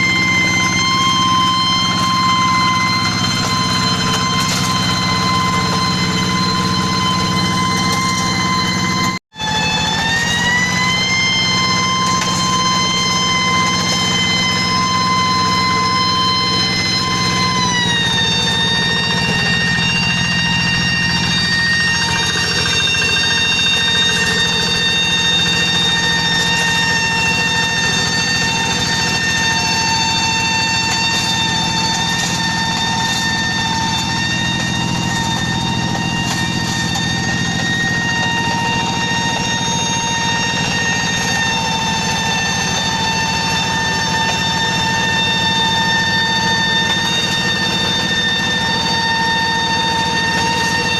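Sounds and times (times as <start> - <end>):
high-pitched whine: 0.0 - 50.9
tractor engine running: 0.0 - 50.9.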